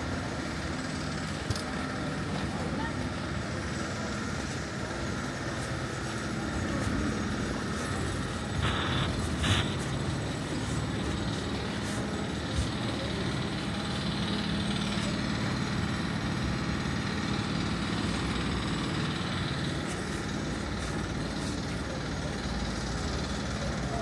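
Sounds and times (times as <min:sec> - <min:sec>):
large engine running: 0:00.0 - 0:24.0
street noise: 0:00.0 - 0:24.0.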